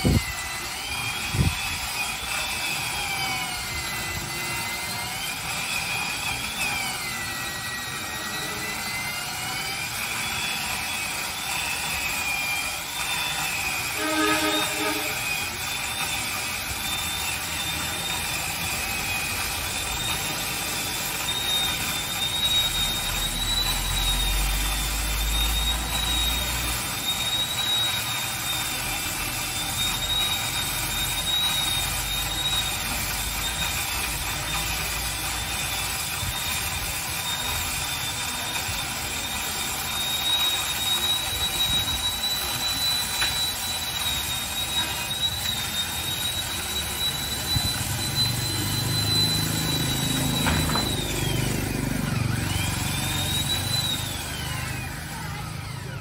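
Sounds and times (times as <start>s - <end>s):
wood chipper high whine: 0.0s - 56.0s
wood chipper engine rumble: 10.0s - 56.0s.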